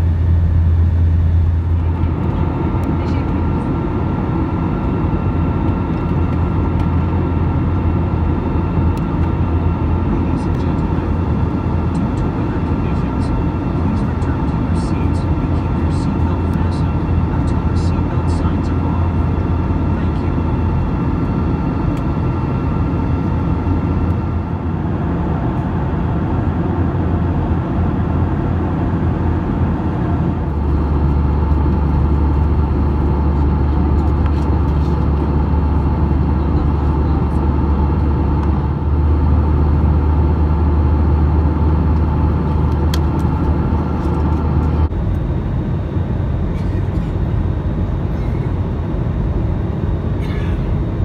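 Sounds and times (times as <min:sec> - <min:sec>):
airliner cabin engine drone: 0:00.0 - 0:51.0.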